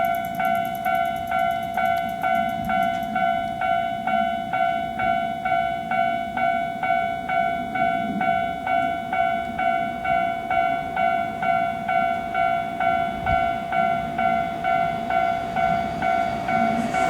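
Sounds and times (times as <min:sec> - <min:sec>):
level crossing warning bell ringing: 0:00.0 - 0:17.0.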